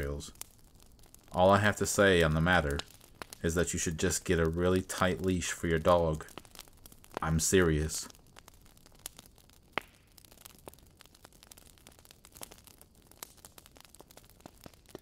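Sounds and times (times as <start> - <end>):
campfire crackling: 0.0 - 15.0
low hiss: 0.0 - 15.0.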